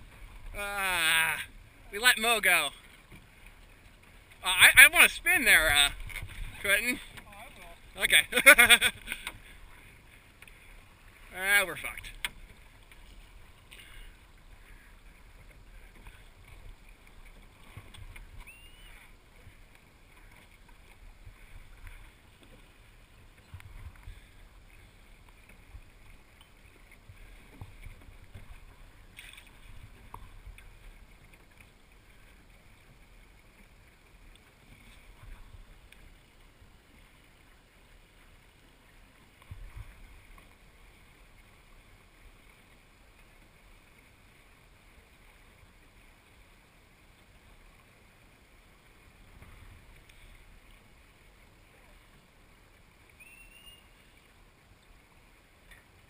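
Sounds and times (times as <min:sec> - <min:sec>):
water moving along hull: 0:00.0 - 0:56.0.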